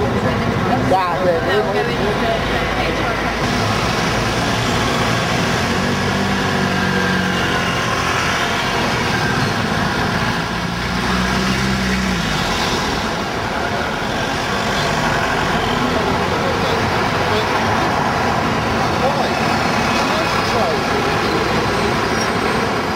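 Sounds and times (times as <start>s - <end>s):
road noise: 0.0s - 22.9s
vehicle engines running: 0.0s - 22.9s.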